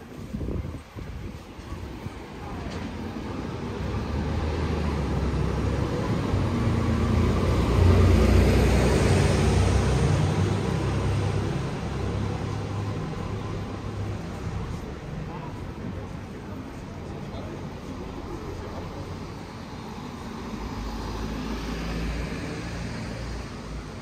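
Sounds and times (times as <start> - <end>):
heavy vehicle passing: 3.0 - 24.0.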